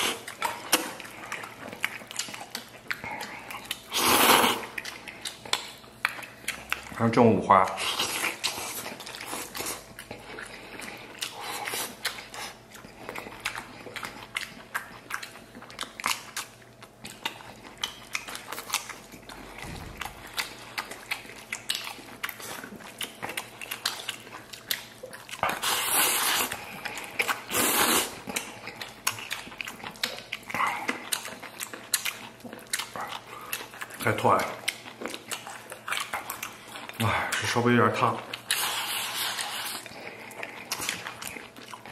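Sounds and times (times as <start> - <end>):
close-up chewing and biting: 0.0 - 41.9.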